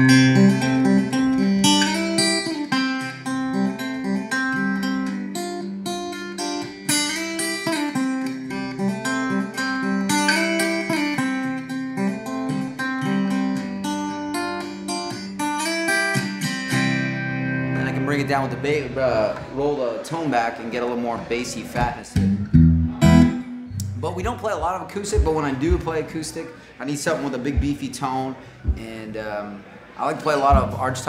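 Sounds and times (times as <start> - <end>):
guitar picking single notes and chords: 0.0 - 20.0, 22.0 - 29.2, 30.4 - 31.0.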